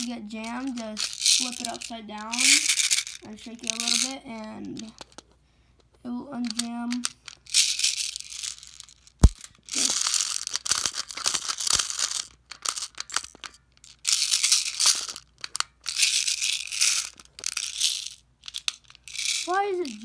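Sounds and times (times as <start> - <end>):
plastic pellets rattling: 0.0 - 4.2, 6.5 - 20.0.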